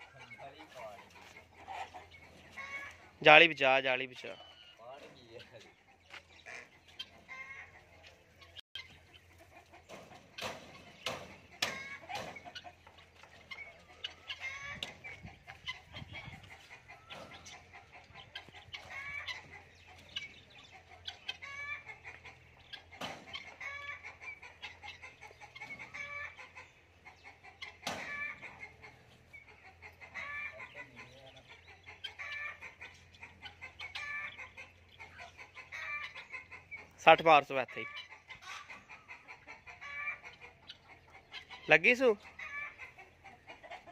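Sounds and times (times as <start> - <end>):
fowl clucking: 0.0 - 43.9.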